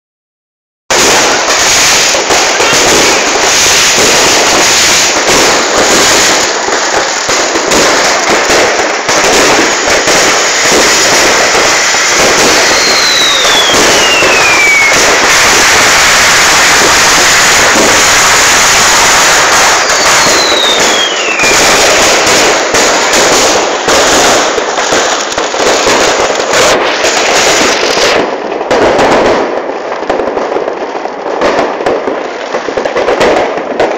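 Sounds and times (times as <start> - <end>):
falling firework whistles: 0.9 - 29.6
fireworks bangs and crackling: 0.9 - 33.9.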